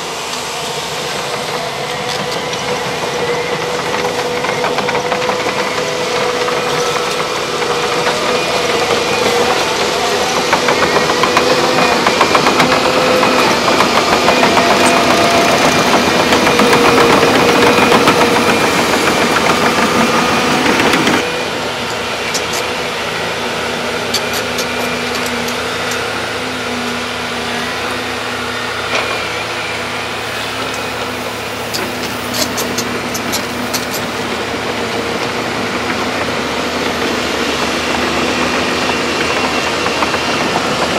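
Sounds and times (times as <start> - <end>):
excavator diesel engines running: 0.0 - 40.9.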